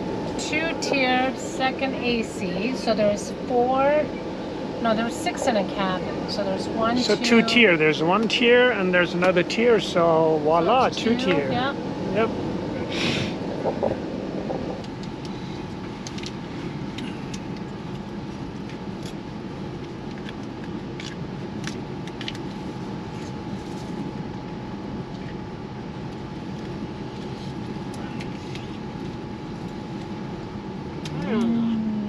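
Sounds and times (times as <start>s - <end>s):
constant hum: 0.0s - 32.0s
train rumble: 0.0s - 32.0s.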